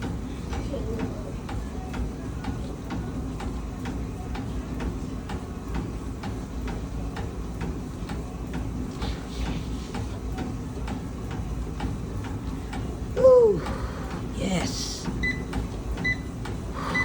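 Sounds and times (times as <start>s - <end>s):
exercise bike ticking: 0.0s - 17.0s.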